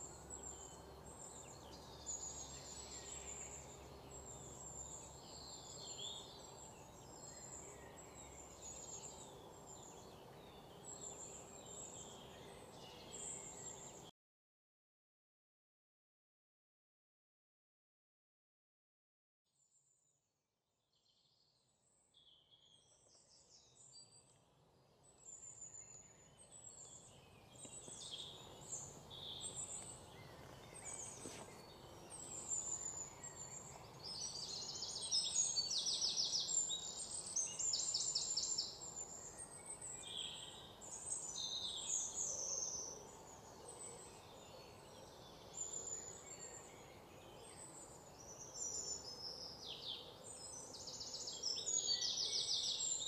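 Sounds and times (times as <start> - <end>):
songbirds chirping: 0.0 - 14.1, 20.9 - 53.0.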